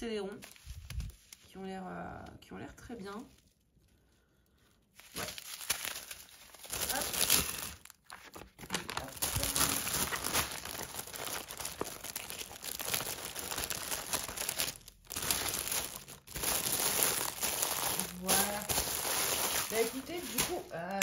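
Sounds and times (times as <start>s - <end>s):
plastic packaging crinkling: 0.2s - 2.1s, 3.1s - 21.0s.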